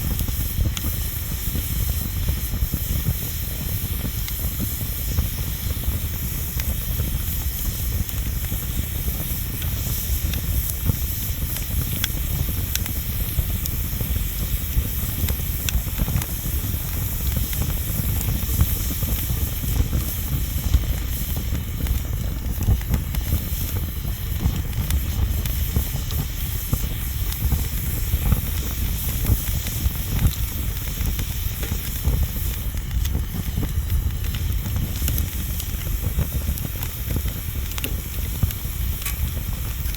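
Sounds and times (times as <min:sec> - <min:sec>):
bonfire hissing and rumbling: 0:00.0 - 0:39.9
fire crackles and pops: 0:00.0 - 0:39.9.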